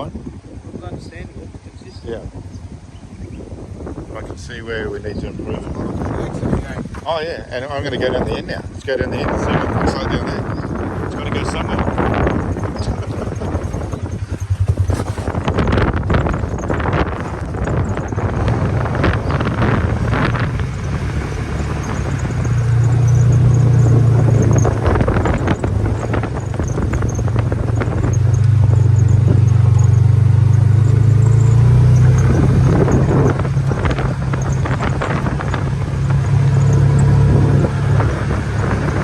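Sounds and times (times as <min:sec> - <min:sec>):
vehicle engine droning: 0:01.4 - 0:39.0.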